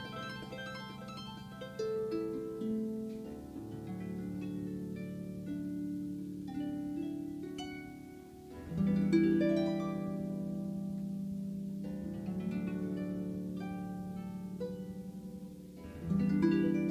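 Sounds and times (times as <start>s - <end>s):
harp plucked notes: 0.0s - 16.9s.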